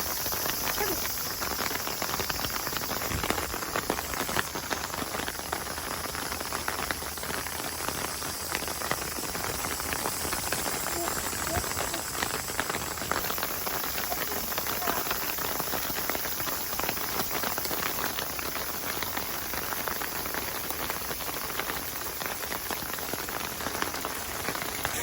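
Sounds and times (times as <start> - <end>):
water drops pattering: 0.0 - 25.0.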